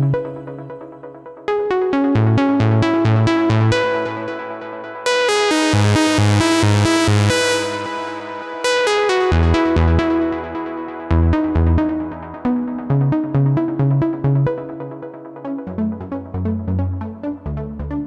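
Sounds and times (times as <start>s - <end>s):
pulsing low bass notes: 0.0s - 1.4s, 2.0s - 4.6s, 5.7s - 8.0s, 9.3s - 18.0s
buzzy synthesizer lead melody: 0.0s - 18.0s.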